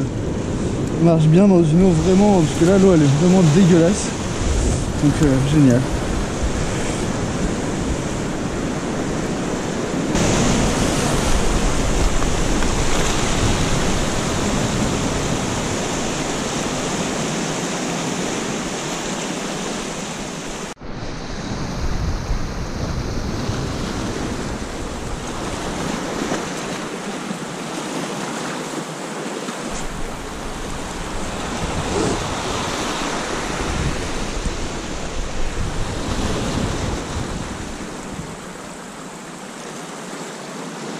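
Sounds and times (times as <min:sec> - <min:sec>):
wind rumbling on microphone: 0:00.0 - 0:27.4, 0:29.7 - 0:39.6
surf breaking on rocky shore: 0:00.0 - 0:40.9.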